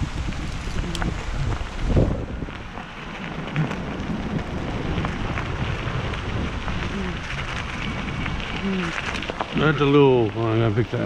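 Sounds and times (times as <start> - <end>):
bicycle tyres rolling on rough path: 0.0 - 11.0
wind on microphone: 0.0 - 11.0.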